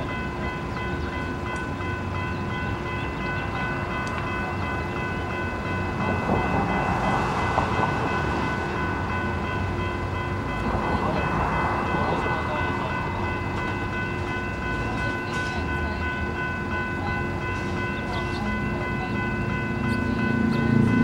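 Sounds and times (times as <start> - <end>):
railroad crossing bells ringing: 0.0 - 21.0.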